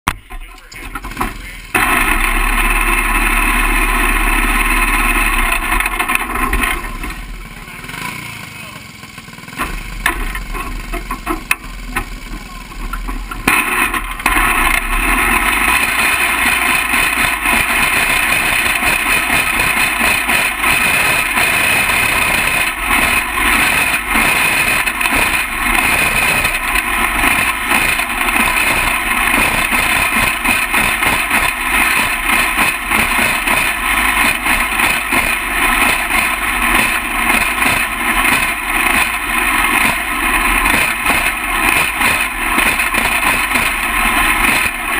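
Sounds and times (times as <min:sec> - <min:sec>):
kart engine running hard: 0:00.1 - 0:44.9.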